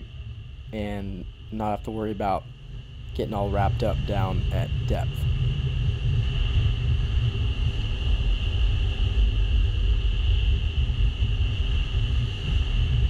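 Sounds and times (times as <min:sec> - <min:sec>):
outboard motor whine: 0:00.0 - 0:13.0.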